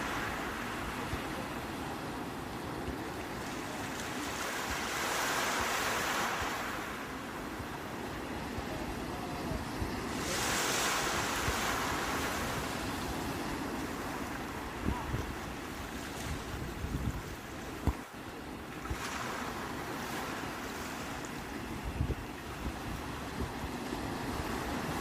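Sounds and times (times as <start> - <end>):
surf wash: 0.0 - 25.0
waves breaking: 0.0 - 25.0.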